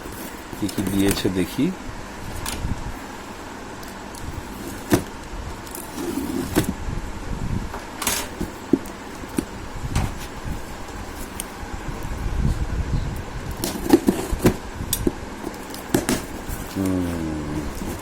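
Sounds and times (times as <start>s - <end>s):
cardboard and plastic rustling: 0.0s - 6.8s, 8.0s - 12.3s, 13.4s - 14.7s, 15.4s - 18.0s.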